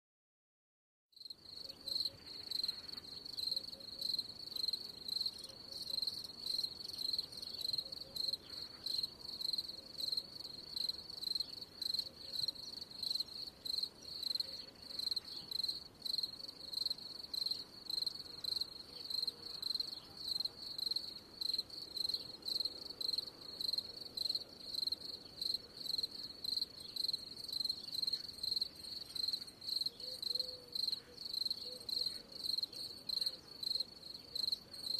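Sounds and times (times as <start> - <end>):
cricket chirping: 1.2 - 34.9.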